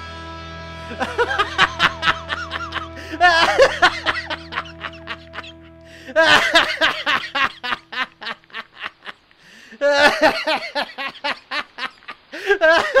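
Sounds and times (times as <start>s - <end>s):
man laughing hard: 0.8s - 9.2s, 9.8s - 13.0s.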